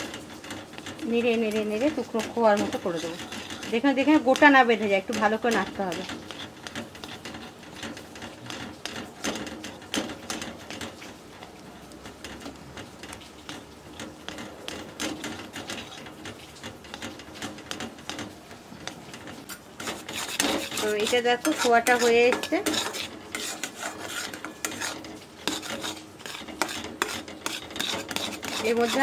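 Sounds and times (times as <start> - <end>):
spoon scraping steel pan: 0.0 - 29.0.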